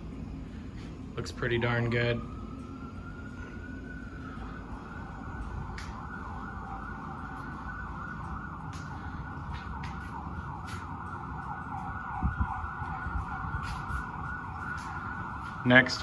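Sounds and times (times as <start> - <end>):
emergency siren yelping: 1.2 - 16.0.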